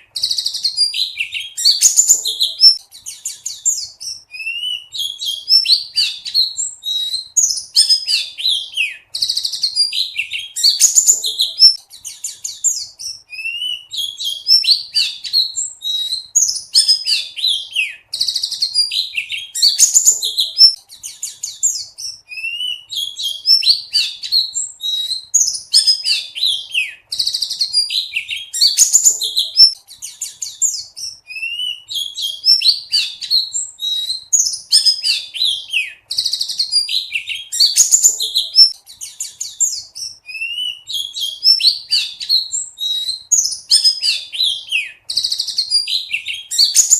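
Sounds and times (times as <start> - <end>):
bird singing chirps and trills: 0.0 - 46.9.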